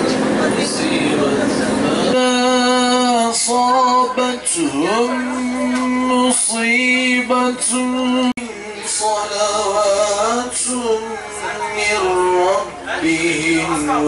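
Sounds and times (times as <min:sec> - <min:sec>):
man singing unaccompanied: 0:02.0 - 0:14.0.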